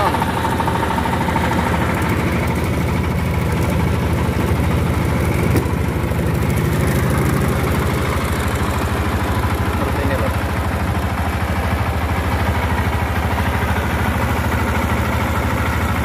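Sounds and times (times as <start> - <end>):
diesel generator running: 0.0 - 16.0.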